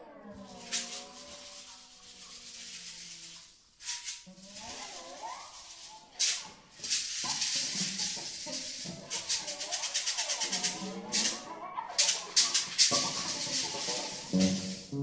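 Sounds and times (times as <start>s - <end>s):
hand percussion rattling: 0.4s - 15.0s.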